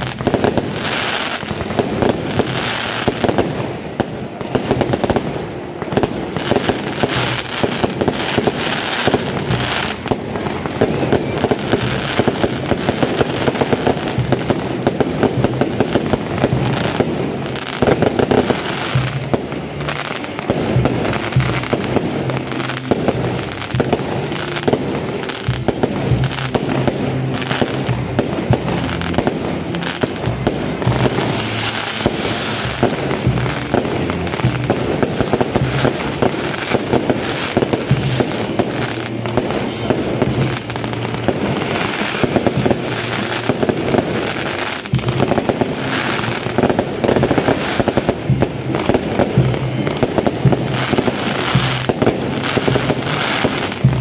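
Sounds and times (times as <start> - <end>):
fireworks crackling and popping: 0.0 - 54.0
music playing: 0.0 - 54.0.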